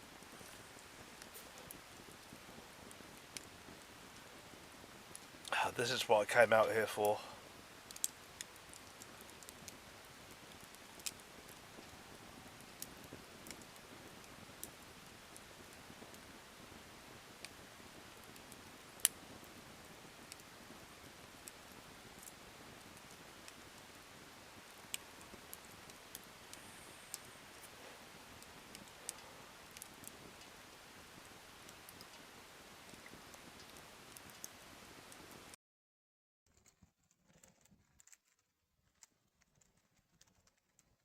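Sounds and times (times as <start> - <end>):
faint hiss: 0.0 - 35.6
wood fire crackling: 0.0 - 35.6, 36.6 - 41.0.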